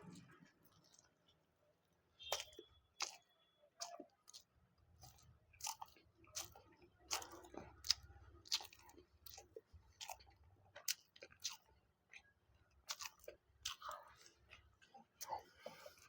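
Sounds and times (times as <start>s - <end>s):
chewing and biting food: 2.2s - 16.0s.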